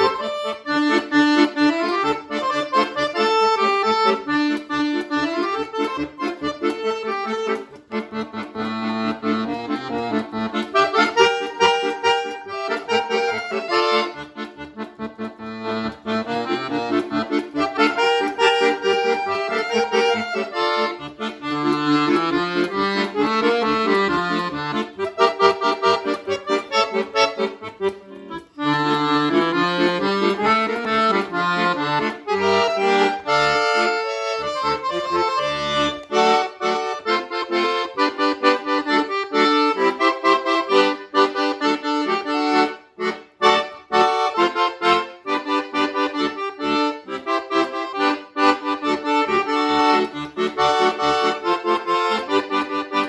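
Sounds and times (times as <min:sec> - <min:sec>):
accordion playing lively piece: 0:00.0 - 0:53.0.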